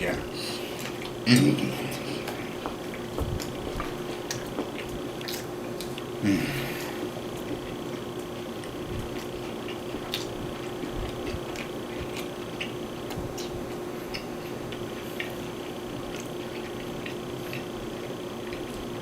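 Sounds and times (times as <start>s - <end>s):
person chewing: 0.0s - 19.0s
steady low hum: 0.0s - 19.0s.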